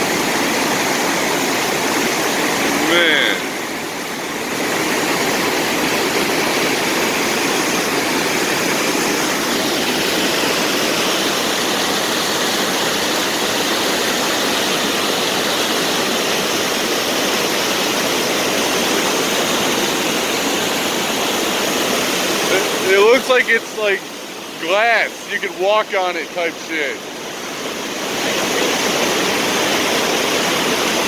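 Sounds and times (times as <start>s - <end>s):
fast-flowing river water: 0.0s - 31.0s
waterfall rushing: 0.0s - 31.0s.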